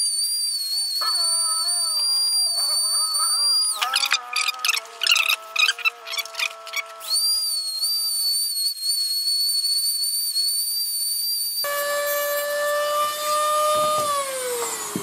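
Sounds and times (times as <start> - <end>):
rotary tool whining: 0.0 - 9.3, 11.6 - 15.0.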